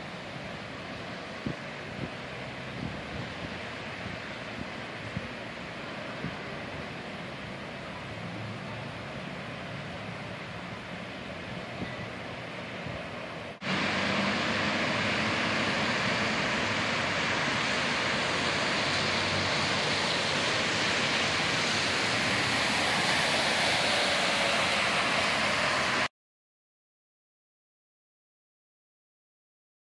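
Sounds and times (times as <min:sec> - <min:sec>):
waterfall rushing: 0:00.0 - 0:26.1.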